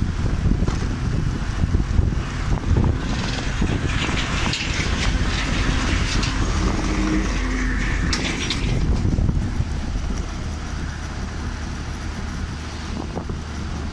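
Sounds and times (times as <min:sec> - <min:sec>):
tyre noise on road: 0:00.0 - 0:13.9
wind buffeting microphone: 0:00.0 - 0:13.9.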